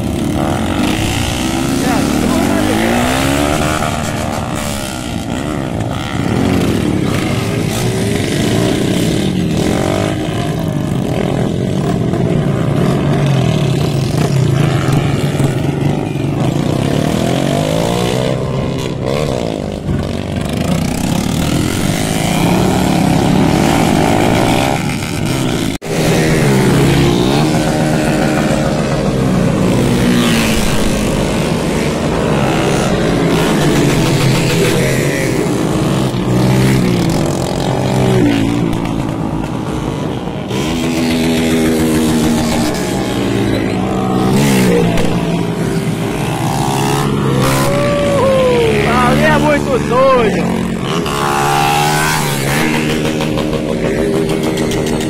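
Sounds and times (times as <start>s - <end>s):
motorcycles revving and passing: 0.0s - 55.0s.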